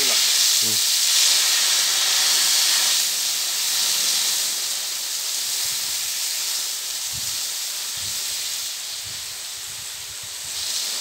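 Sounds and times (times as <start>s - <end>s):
jet sprinkler spraying water: 0.0s - 11.0s.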